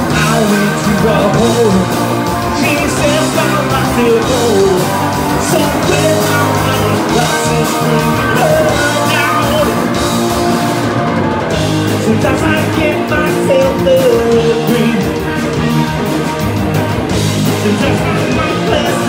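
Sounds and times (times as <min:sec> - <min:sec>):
man singing into a microphone: 0:00.0 - 0:10.0, 0:12.0 - 0:16.0, 0:17.6 - 0:19.0
drum kit: 0:00.0 - 0:19.0
electric guitar: 0:00.0 - 0:19.0.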